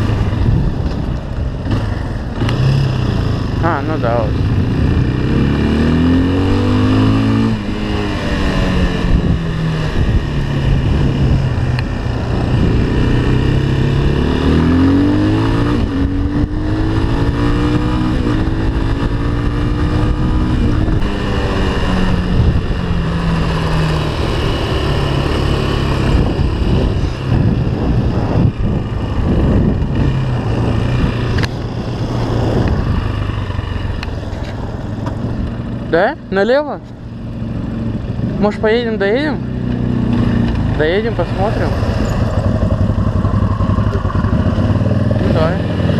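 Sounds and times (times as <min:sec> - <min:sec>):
rush of road noise: 0:00.0 - 0:45.9
off-road vehicle engine revving: 0:01.6 - 0:34.2, 0:37.3 - 0:45.9.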